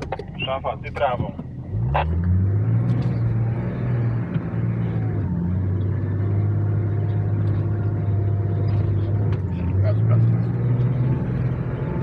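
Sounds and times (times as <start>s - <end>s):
turbocharged engine pulling: 0.0s - 12.0s.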